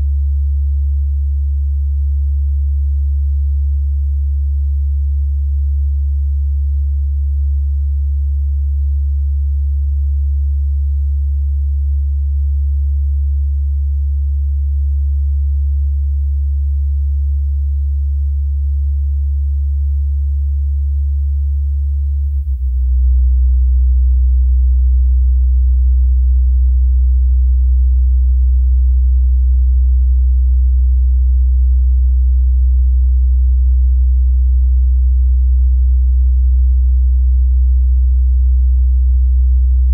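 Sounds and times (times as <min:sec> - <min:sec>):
deep steady hum: 0:00.0 - 0:39.9.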